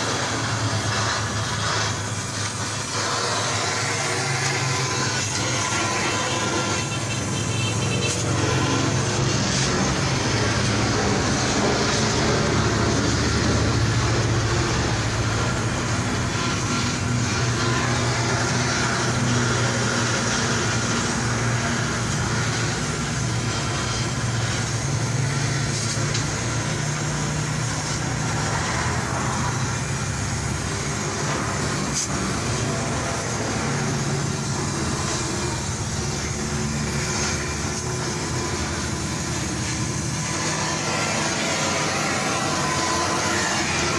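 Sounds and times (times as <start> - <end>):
motor vehicle rumble: 0.0 - 43.9.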